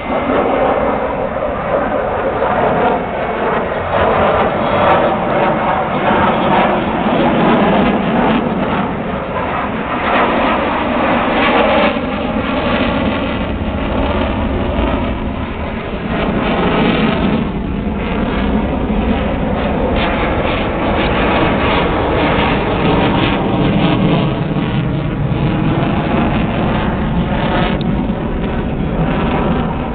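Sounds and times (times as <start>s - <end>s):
fighter jet engines roaring: 0.0s - 29.9s.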